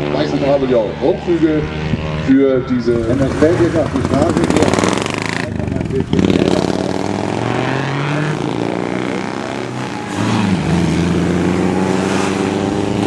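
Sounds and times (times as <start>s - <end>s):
racing car engines running: 0.0s - 13.0s.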